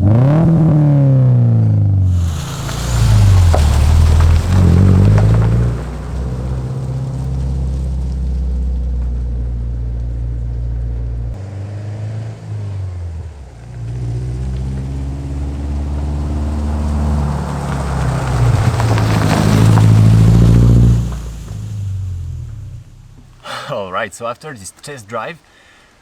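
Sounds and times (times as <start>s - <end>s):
car exhaust accelerating: 0.0s - 23.5s.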